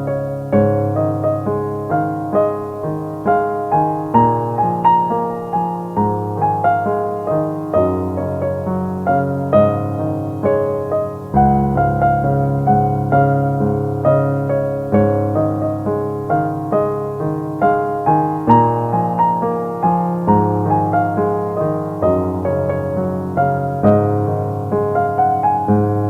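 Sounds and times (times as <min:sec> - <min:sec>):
gentle solo piano music: 0:00.0 - 0:26.0.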